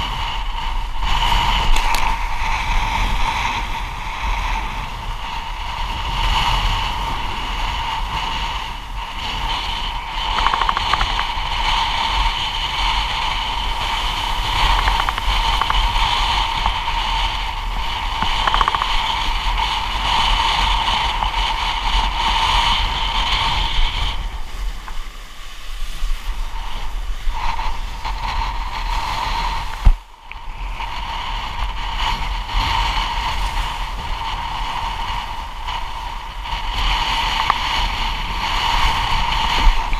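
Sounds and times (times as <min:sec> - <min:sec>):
rush of wind and water spray: 0:00.0 - 0:39.9.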